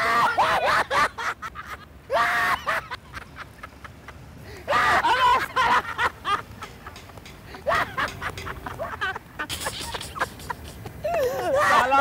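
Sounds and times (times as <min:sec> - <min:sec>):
men laughing hysterically: 0:00.0 - 0:12.0.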